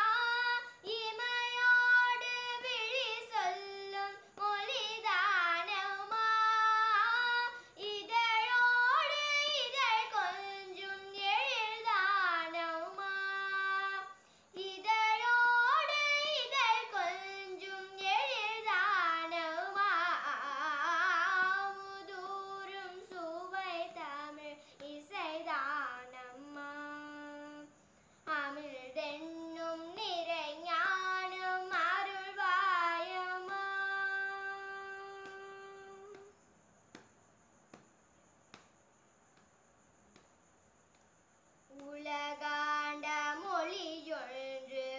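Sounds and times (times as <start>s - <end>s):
girl singing solo: 0.0s - 36.4s, 41.7s - 44.9s.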